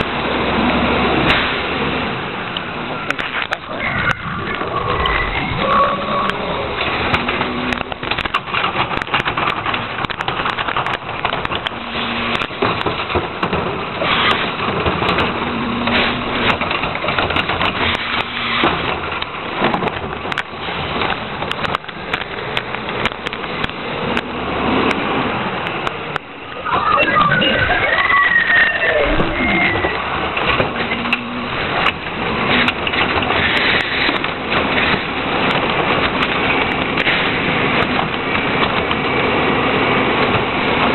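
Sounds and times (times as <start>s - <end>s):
garbage truck engine running: 0.0s - 40.9s
clattering knocks and rattles: 2.5s - 26.4s, 29.0s - 40.9s.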